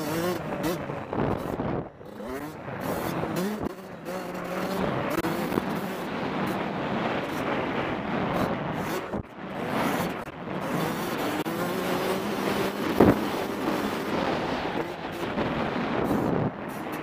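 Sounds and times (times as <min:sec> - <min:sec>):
two-stroke motorcycle engine revving: 0:00.0 - 0:17.0.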